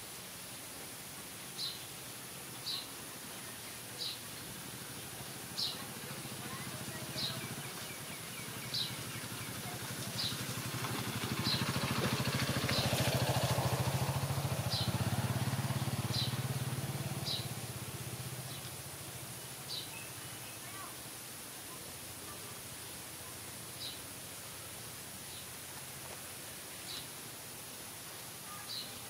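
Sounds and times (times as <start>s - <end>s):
small vehicle engine passing by: 1.6s - 29.0s.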